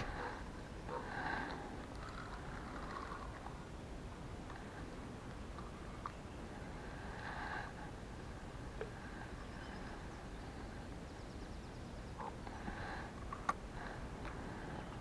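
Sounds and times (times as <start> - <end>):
faint birdsong chirping: 0.0 - 15.0
low background hiss: 0.0 - 15.0.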